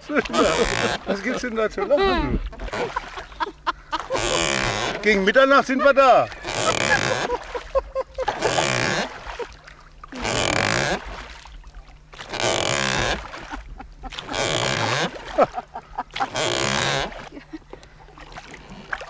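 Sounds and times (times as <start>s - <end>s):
oars whooshing through water: 0.0s - 19.0s.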